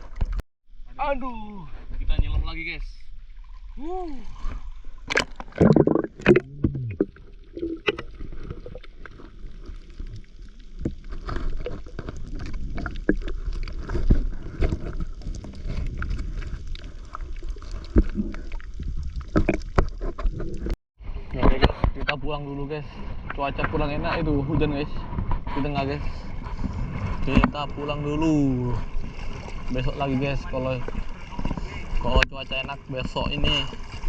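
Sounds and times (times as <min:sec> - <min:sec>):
water splashing and sloshing: 0:00.0 - 0:00.4, 0:03.1 - 0:22.3, 0:23.0 - 0:34.0.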